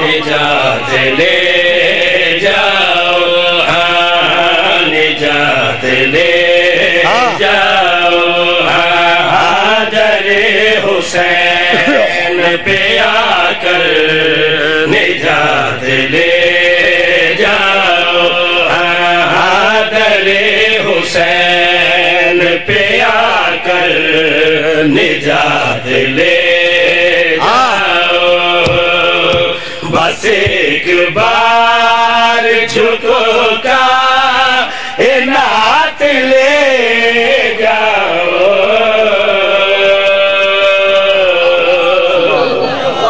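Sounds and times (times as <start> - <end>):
men chanting through microphones: 0.0 - 43.0.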